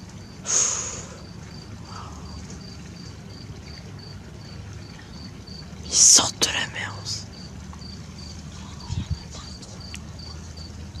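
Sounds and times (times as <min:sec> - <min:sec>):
cricket chirping: 0:00.0 - 0:11.0
low background noise: 0:00.0 - 0:11.0.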